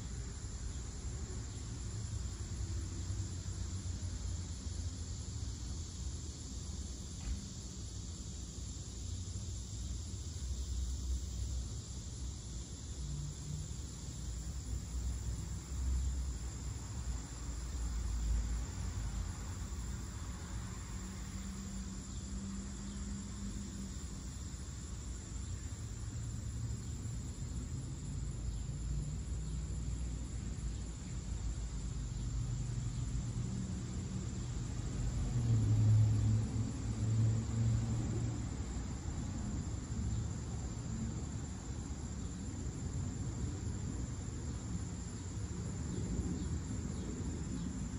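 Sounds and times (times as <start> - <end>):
cicadas droning: 0.0 - 47.9
rumble of passing vehicles: 0.0 - 47.9.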